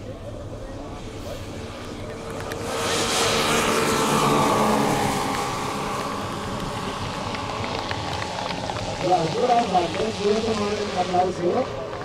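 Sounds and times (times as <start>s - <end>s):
model plane engines droning: 0.0s - 12.0s.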